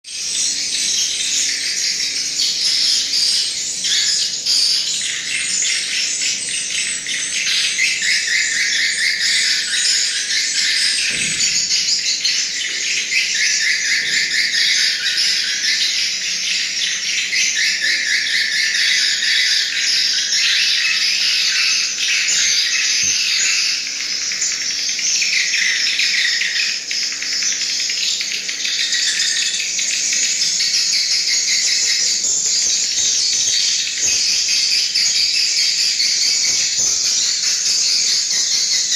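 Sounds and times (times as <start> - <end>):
small animals chirping and trilling: 0.2 - 38.9.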